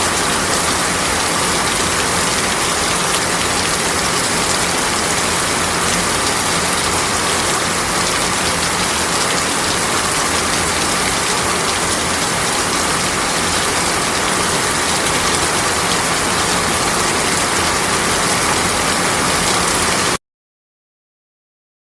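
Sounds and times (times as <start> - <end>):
heavy rain hissing: 0.0 - 20.2.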